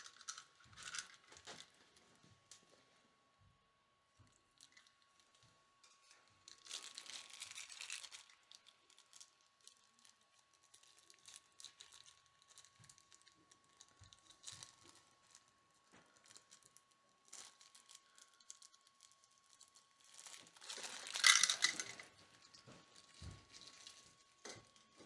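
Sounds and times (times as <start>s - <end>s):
plastic packaging rustling: 4.6s - 25.0s.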